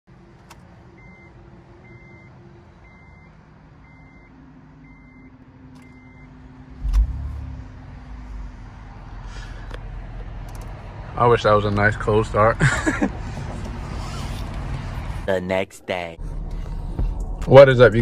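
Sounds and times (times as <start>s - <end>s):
car engine starting and idling: 0.1s - 15.3s, 16.2s - 18.0s.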